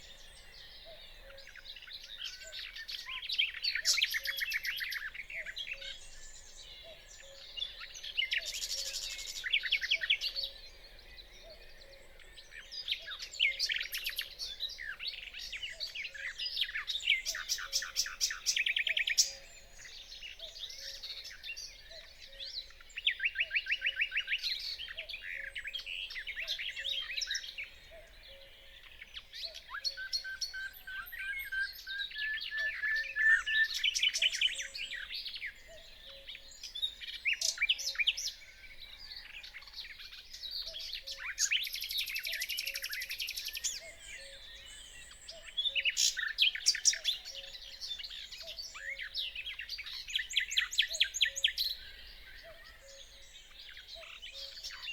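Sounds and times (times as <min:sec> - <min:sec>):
nightingale singing: 0:00.0 - 0:54.9.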